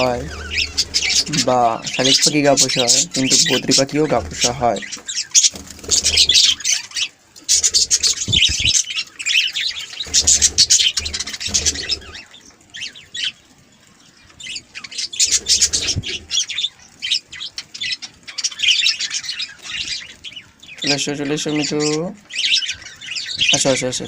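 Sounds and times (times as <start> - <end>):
budgerigars chattering: 0.0 - 13.4, 14.4 - 24.0.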